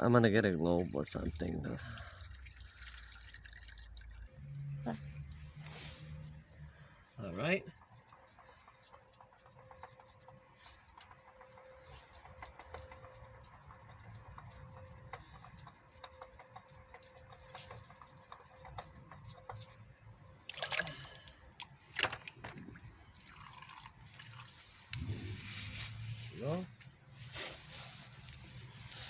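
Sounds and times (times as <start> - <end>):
oil dripping: 0.0 - 29.0.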